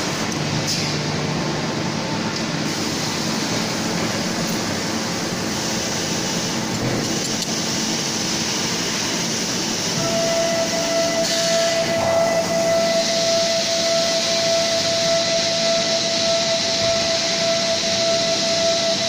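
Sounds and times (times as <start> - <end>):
machines and ventilation running: 0.0 - 19.0.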